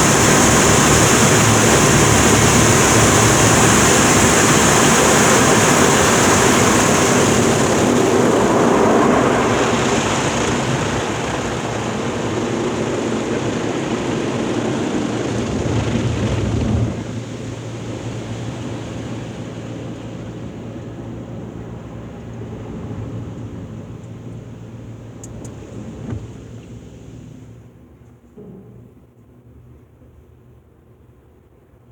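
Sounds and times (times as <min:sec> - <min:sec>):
car wash water spray: 0:00.0 - 0:27.7
car wash machinery hum: 0:00.0 - 0:31.8.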